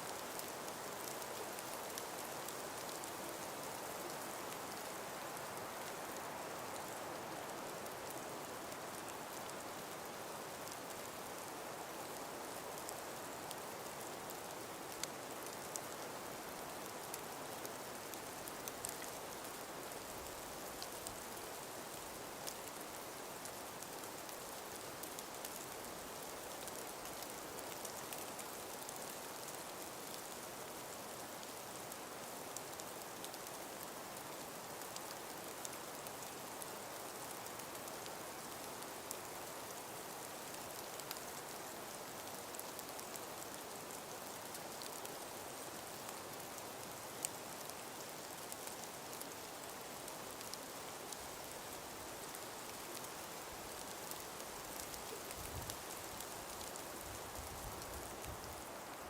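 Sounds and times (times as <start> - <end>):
breeze through forest: 0.0 - 59.0
small ticks and patters: 0.0 - 59.0.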